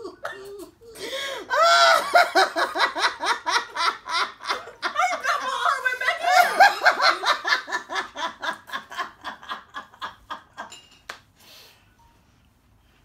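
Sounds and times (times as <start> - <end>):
woman laughing heartily: 0.0 - 10.7.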